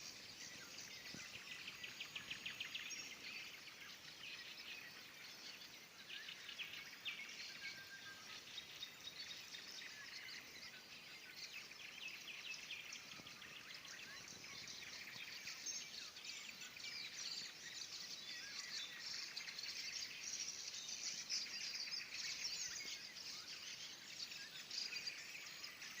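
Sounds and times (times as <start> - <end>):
chorus of birdsong: 0.0 - 26.0
nightingale trills: 0.0 - 26.0.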